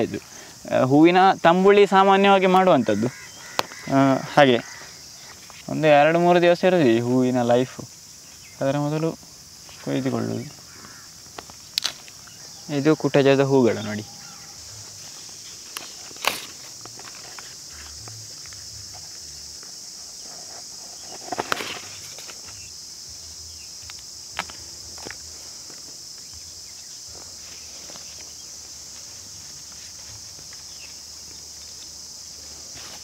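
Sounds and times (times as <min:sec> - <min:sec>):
insects droning: 0:00.0 - 0:33.0
rustles: 0:02.4 - 0:33.0.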